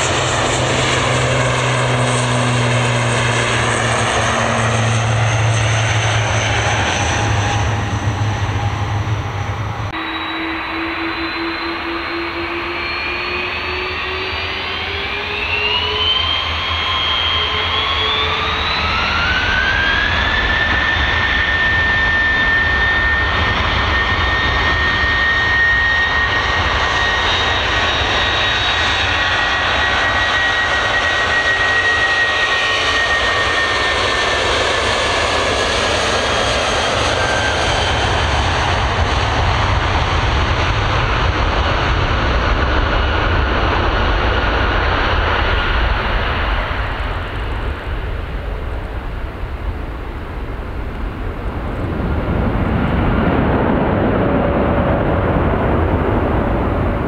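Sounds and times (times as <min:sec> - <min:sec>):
high engine whine: 0:00.0 - 0:57.0
jet engines at take-off: 0:00.0 - 0:57.0.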